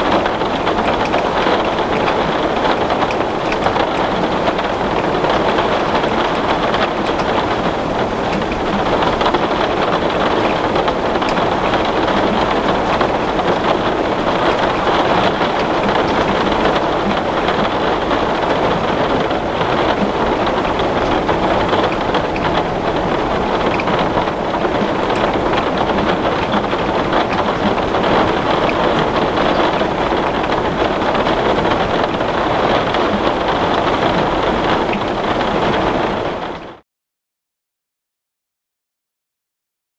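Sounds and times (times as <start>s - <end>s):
heavy rain on glass: 0.0s - 36.8s.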